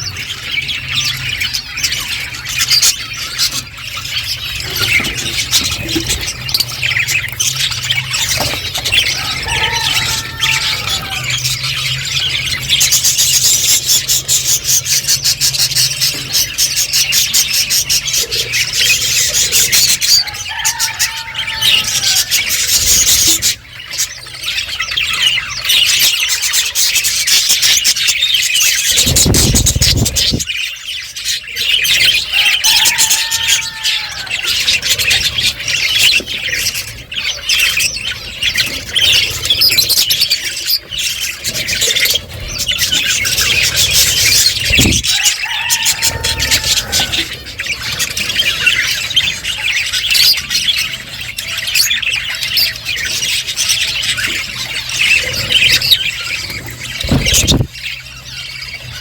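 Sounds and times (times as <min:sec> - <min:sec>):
budgerigars chattering and chirping: 0:00.0 - 0:59.0.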